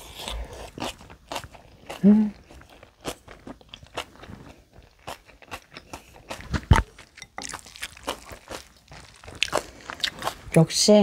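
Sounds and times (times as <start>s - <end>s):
person chewing food: 0.0s - 10.6s.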